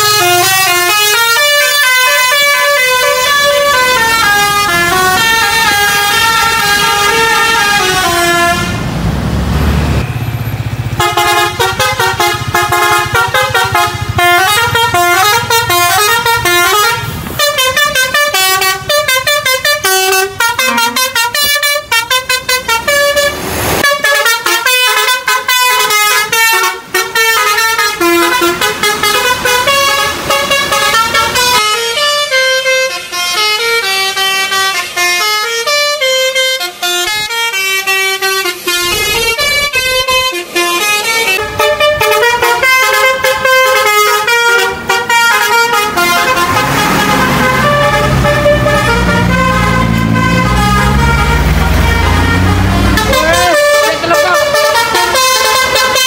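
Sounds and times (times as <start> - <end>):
bus musical horn melody: 0.0 - 9.0, 9.9 - 56.0.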